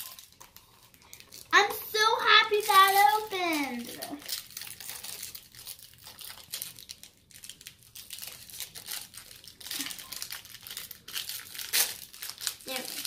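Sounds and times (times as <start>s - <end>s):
plastic wrapping crackling: 0.0s - 13.0s.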